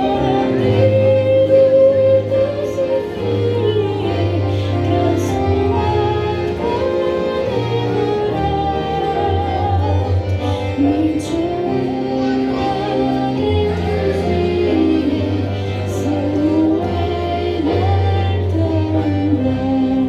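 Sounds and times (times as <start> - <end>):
instrumental accompaniment: 0.0 - 20.0
woman singing into microphone: 0.0 - 20.0.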